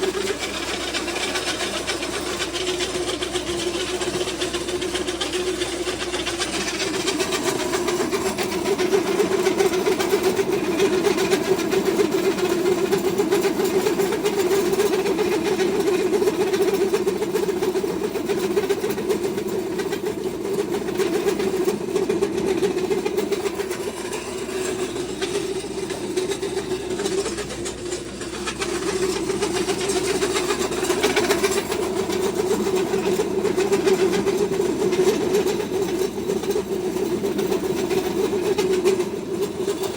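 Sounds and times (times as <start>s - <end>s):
feed mill mechanical drone: 0.0s - 39.9s.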